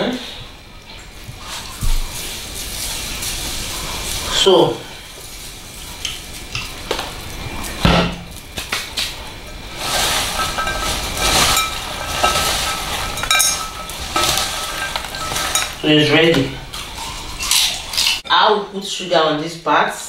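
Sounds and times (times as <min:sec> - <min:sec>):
popcorn rustling in glass bowl: 0:01.4 - 0:18.2.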